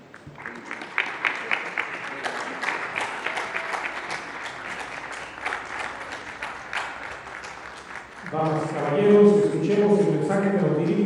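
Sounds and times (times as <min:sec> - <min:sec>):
small group applauding: 0:00.0 - 0:09.8.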